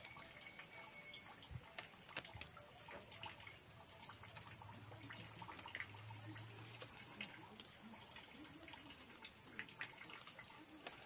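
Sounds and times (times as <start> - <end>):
light rain dripping: 0.0 - 11.0.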